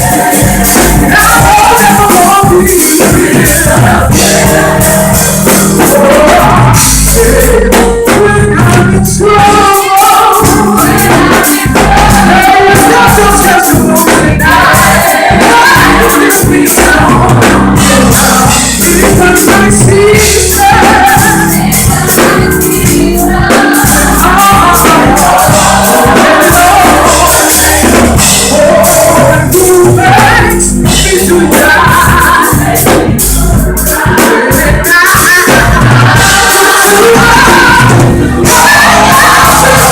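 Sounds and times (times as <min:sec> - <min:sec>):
bass: 0:00.0 - 0:39.9
drums: 0:00.0 - 0:39.9
gospel choir singing: 0:00.0 - 0:39.9.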